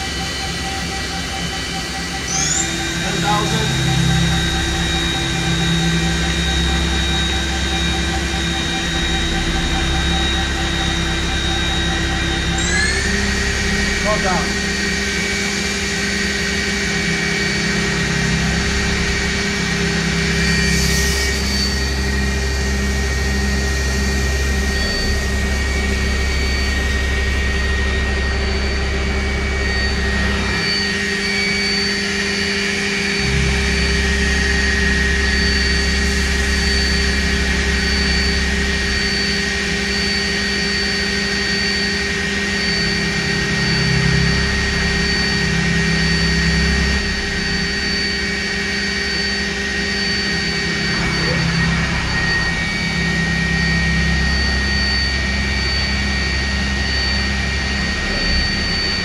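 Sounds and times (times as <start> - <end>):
deep machine hum: 0.0 - 59.0
faint pulsing tone: 0.0 - 59.0
machine high whine: 0.0 - 59.0.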